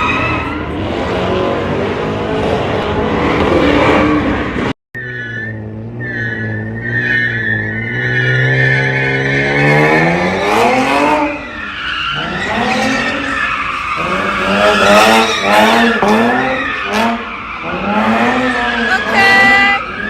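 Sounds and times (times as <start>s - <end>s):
car engine revving: 0.0s - 20.0s
tires squealing: 0.0s - 20.0s.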